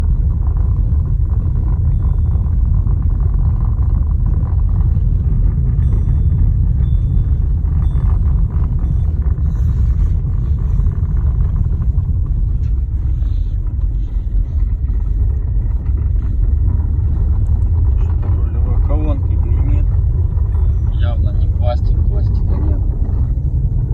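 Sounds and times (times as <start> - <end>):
low road rumble: 0.0 - 23.9.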